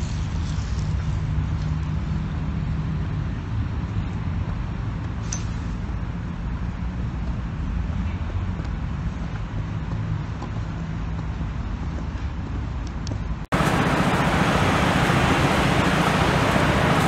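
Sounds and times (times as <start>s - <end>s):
low outdoor rumble: 3.0s - 17.0s.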